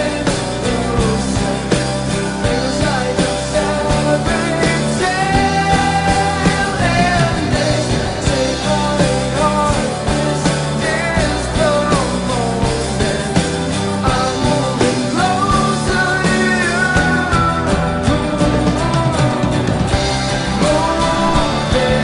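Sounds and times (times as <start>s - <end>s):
full band song: 0.0s - 22.0s
gliding lead melody: 0.0s - 22.0s.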